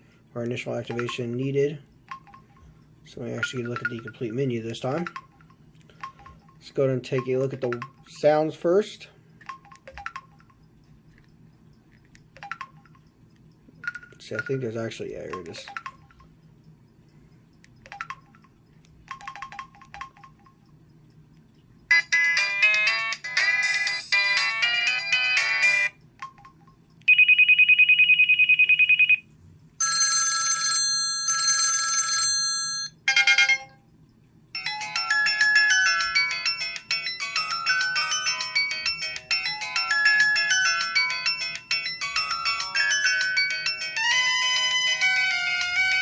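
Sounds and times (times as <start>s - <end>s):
phone ringtones: 0.9s - 8.4s, 9.4s - 10.8s, 11.8s - 13.2s, 13.8s - 14.6s, 15.3s - 16.3s, 17.8s - 20.7s, 21.9s - 29.2s, 29.8s - 33.8s, 34.6s - 46.0s.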